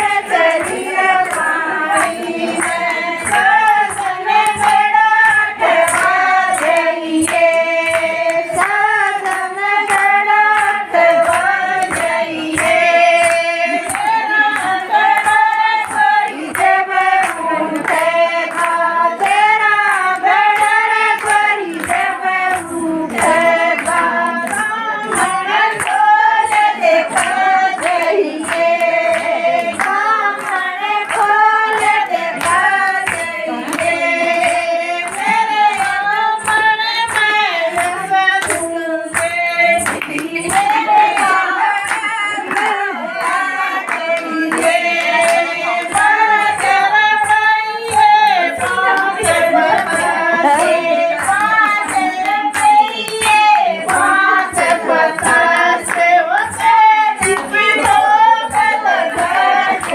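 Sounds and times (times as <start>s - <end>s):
hand claps: 0.0s - 59.9s
women singing in chorus: 0.0s - 59.9s.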